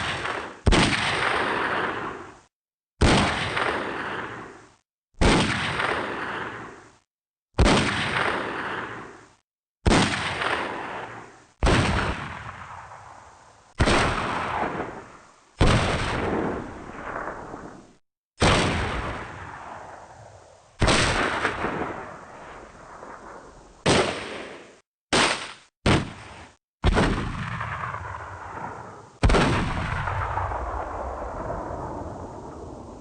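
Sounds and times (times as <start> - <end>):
gunshot-like blasts echoing: 0.0 - 2.4, 3.0 - 4.6, 5.2 - 6.8, 7.6 - 9.2, 9.8 - 13.1, 13.8 - 17.8, 18.4 - 20.1, 20.8 - 31.5.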